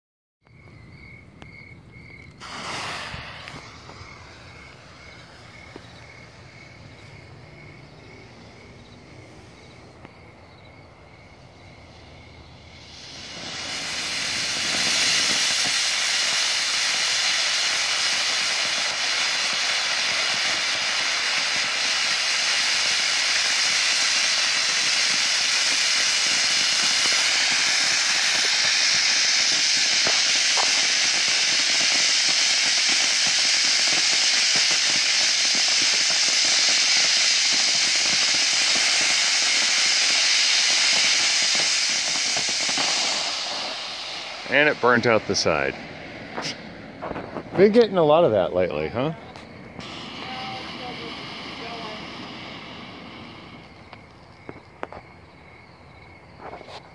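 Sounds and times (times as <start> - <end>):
firework spraying sparks hiss: 2.2 - 55.1, 56.3 - 56.9.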